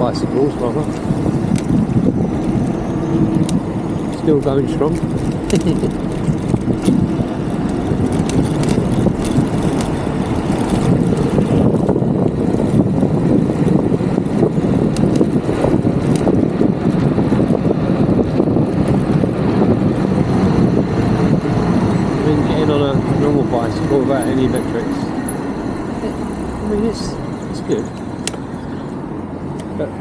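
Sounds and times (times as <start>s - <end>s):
road noise from bike ride: 0.0s - 30.0s
rushing wind: 0.0s - 30.0s.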